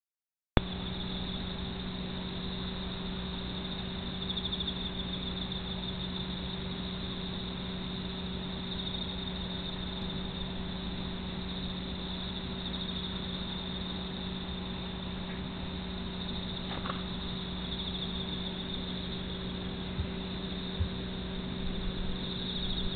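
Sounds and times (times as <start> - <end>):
steady hiss with low hum: 0.6 - 22.9.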